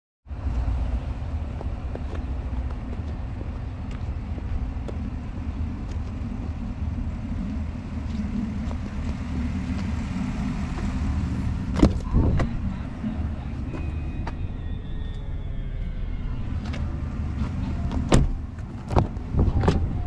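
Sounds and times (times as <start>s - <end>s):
engine idling: 0.3s - 20.0s.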